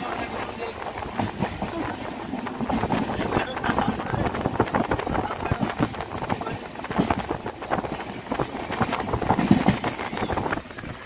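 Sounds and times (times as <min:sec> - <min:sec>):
train running noise: 0:00.0 - 0:11.0
train wheels clattering on rails: 0:00.0 - 0:11.0.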